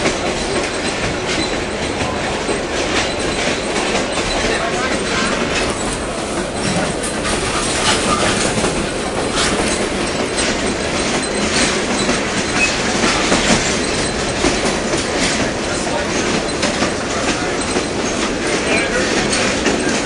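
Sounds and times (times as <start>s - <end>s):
railroad car rumbling on track: 0.0s - 20.0s
wheels clacking over rail joints: 0.0s - 20.0s.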